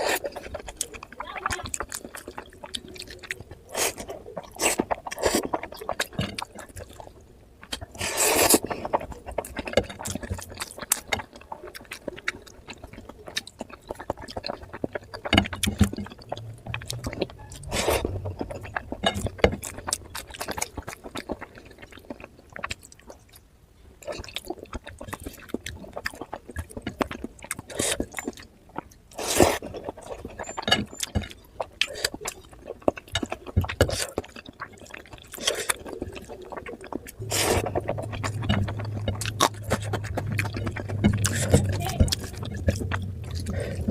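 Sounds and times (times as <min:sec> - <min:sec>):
wet chewing: 0:00.0 - 0:43.9.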